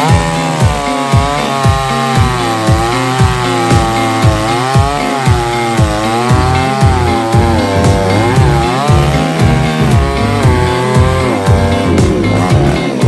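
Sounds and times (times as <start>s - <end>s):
background music with thumping beat: 0.0s - 13.0s
chainsaw cutting: 0.0s - 13.0s.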